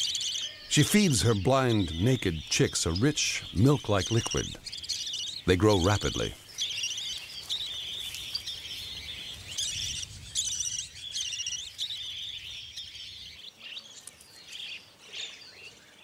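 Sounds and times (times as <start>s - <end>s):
budgerigars chirping: 0.0s - 15.8s.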